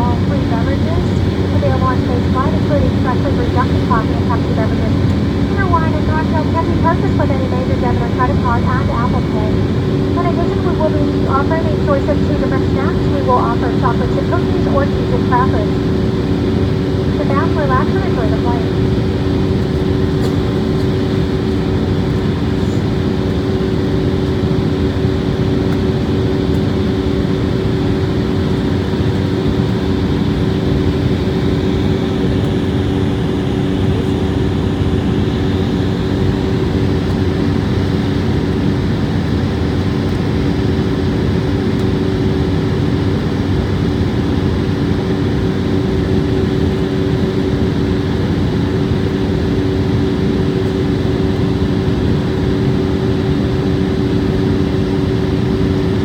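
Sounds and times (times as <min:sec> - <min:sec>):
airliner cabin noise: 0:00.0 - 0:56.0.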